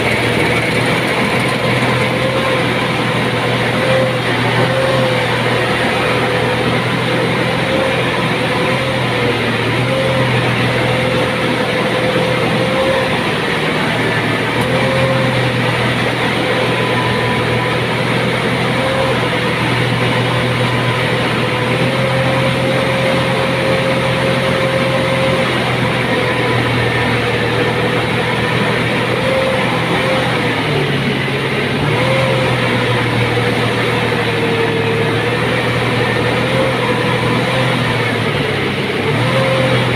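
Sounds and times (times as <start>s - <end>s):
engine running with whine: 0.0s - 39.9s.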